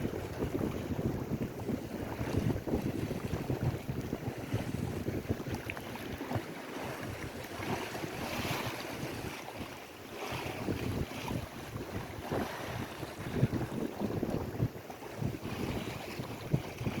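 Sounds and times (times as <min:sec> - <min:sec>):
lake waves washing on shore: 0:00.0 - 0:17.0
wind buffeting microphone: 0:00.0 - 0:17.0.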